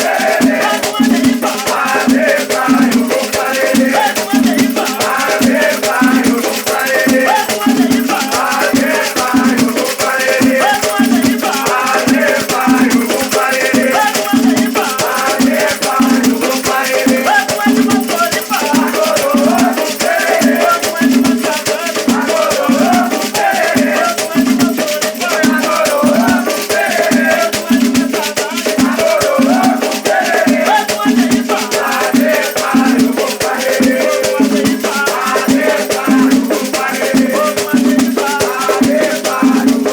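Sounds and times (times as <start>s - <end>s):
shaker rattle: 0.0s - 39.9s
voices singing a chant: 0.0s - 39.9s.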